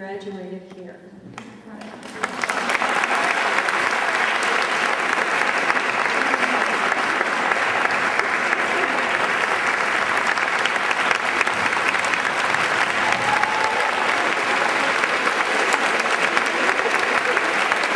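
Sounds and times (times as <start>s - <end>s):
audience applauding: 1.8s - 17.9s.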